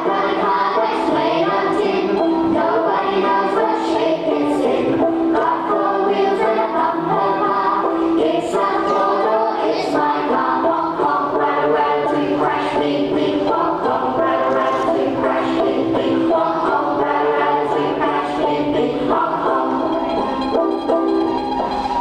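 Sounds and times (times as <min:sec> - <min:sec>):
children singing: 0:00.0 - 0:22.0
instrumental backing music: 0:00.0 - 0:22.0.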